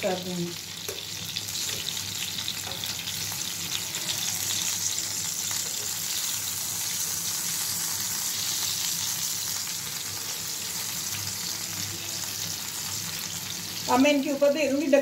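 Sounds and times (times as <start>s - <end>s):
gourds sizzling in hot oil: 0.0s - 15.0s.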